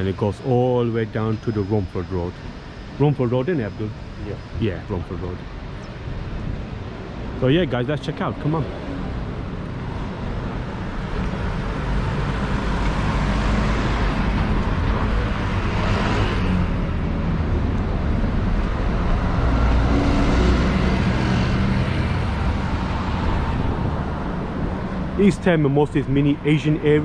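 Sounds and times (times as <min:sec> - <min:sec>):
cars passing: 0:00.0 - 0:27.0.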